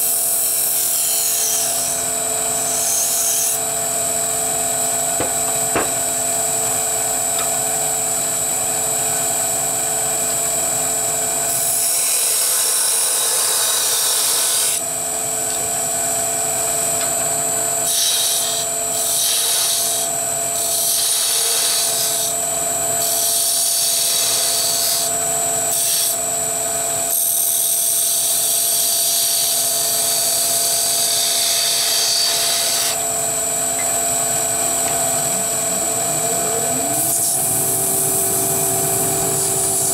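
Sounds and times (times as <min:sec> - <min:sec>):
wood lathe whine: 0:00.0 - 0:39.9.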